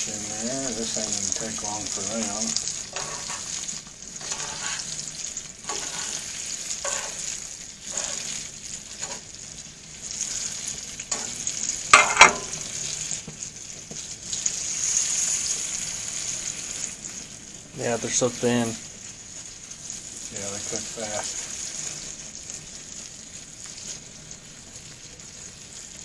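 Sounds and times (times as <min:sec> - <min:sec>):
fish fillets sizzling in butter: 0:00.0 - 0:26.0.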